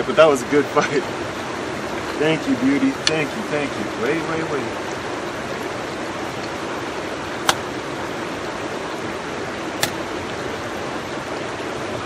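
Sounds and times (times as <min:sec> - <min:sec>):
river rushing over rocks: 0:00.1 - 0:12.0.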